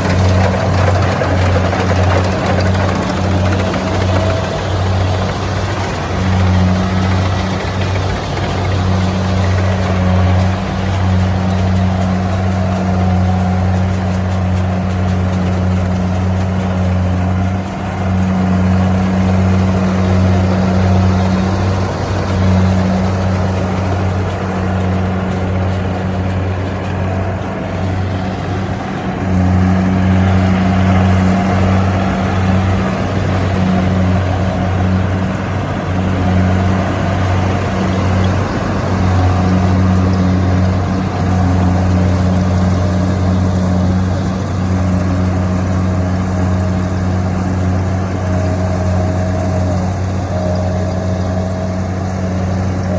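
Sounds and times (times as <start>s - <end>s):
combine harvester engine drone: 0.0s - 52.9s
machinery noise: 0.0s - 52.9s.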